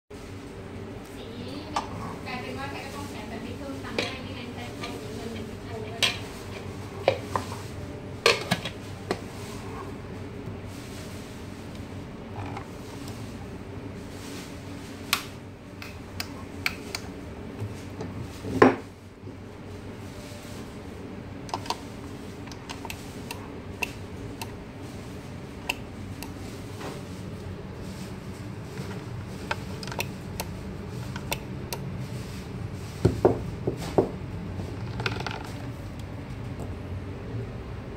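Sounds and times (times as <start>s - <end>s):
steady low hum: 0.1s - 37.9s.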